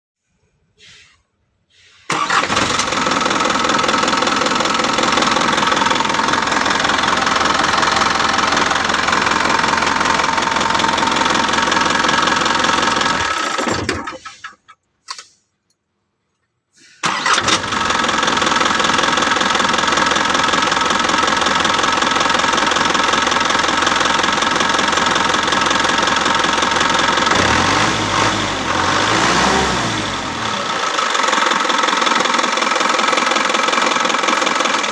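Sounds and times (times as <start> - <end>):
diesel truck engine running: 2.1 - 13.7, 17.0 - 34.9.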